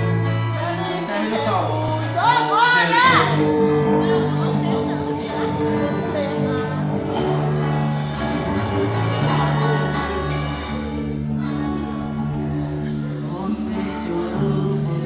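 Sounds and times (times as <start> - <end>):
church band playing: 0.0 - 15.0
people singing: 0.0 - 15.0.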